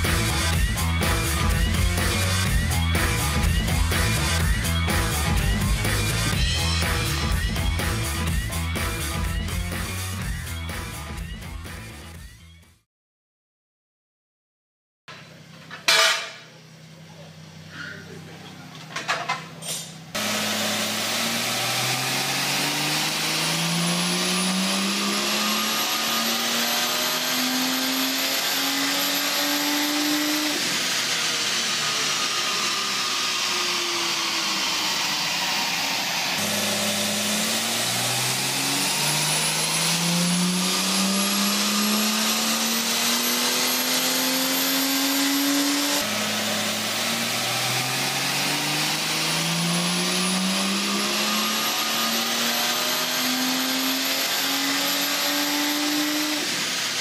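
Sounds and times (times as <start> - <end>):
car engine at full throttle: 0.0 - 11.6, 20.1 - 57.0
high turbo whine: 0.0 - 12.2, 20.1 - 57.0.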